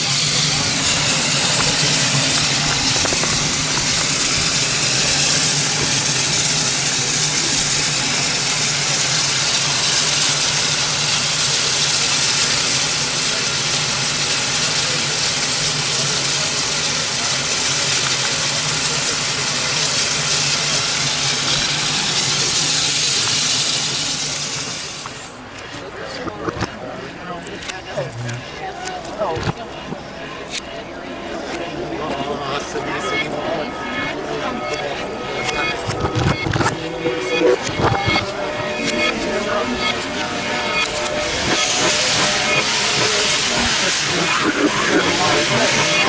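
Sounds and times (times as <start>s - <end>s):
steam hissing: 0.0s - 25.6s, 32.4s - 46.0s.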